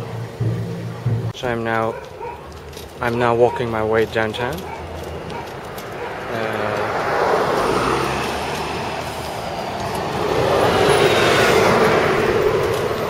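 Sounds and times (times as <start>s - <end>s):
car passing: 0.0s - 13.0s
road traffic rushing: 0.0s - 13.0s.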